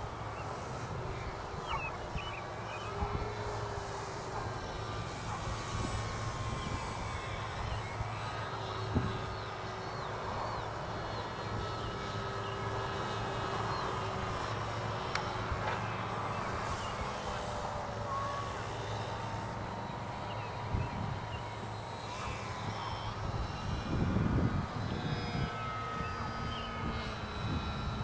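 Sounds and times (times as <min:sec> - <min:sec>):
distant model plane motor whine: 0:00.0 - 0:28.0.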